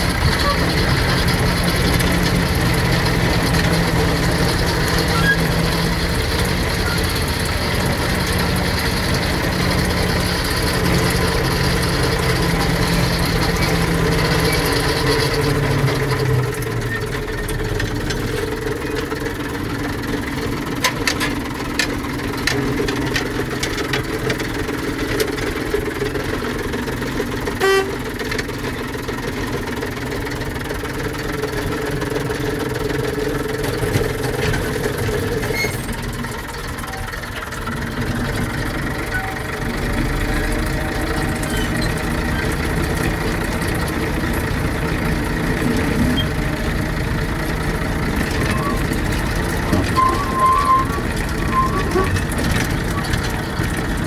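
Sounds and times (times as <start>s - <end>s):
locomotive engine running: 0.0s - 54.0s.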